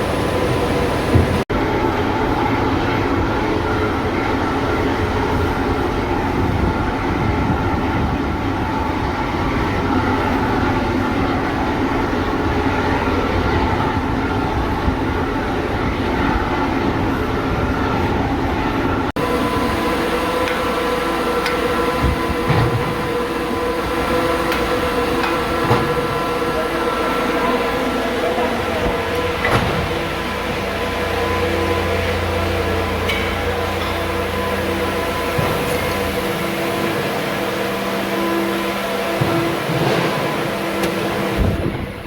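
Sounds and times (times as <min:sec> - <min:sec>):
industrial machine humming: 0:00.0 - 0:42.0.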